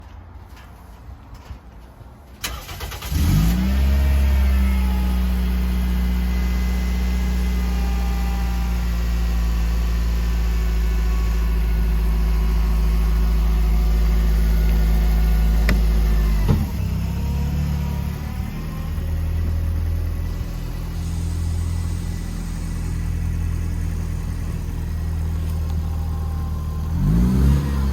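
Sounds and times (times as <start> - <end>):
vehicle engine running: 3.2 - 27.9.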